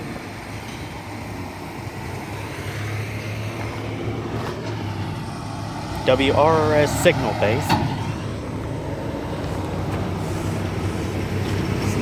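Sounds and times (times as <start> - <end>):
outdoor noise: 0.0 - 12.0
vehicle engine humming: 0.0 - 12.0.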